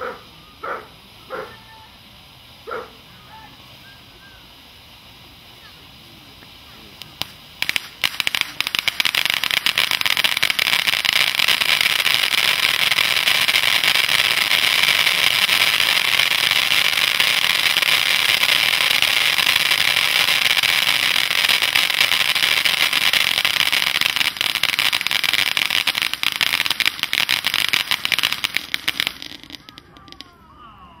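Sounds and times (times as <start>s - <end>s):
firework fountain hissing and crackling: 0.0s - 30.5s.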